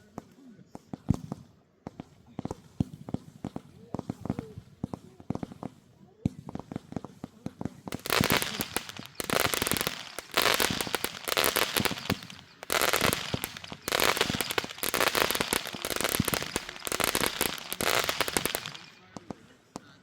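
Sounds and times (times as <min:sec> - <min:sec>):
fireworks crackling bangs: 0:01.0 - 0:20.0.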